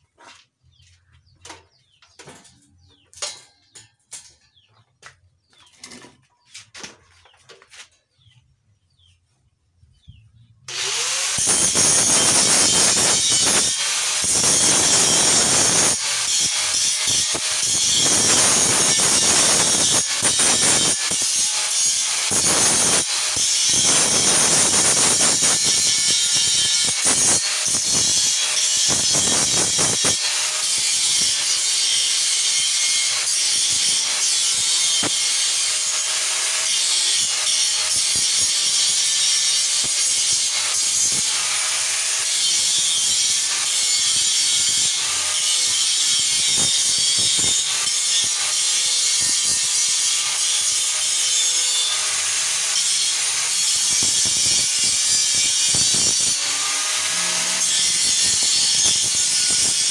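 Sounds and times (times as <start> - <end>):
harsh metalworking hiss: 10.7 - 59.9.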